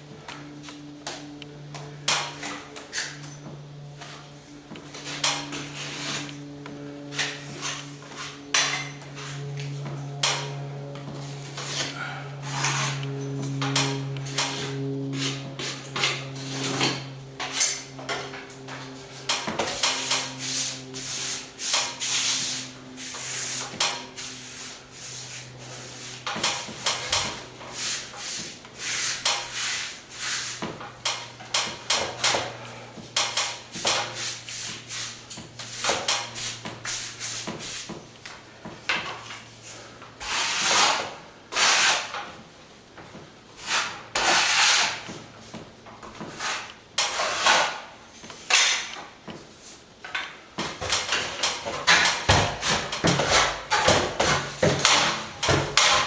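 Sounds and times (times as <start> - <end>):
steady low hum: 0.0 - 56.0
tool scraping plaster wall: 4.0 - 42.4, 43.5 - 56.0.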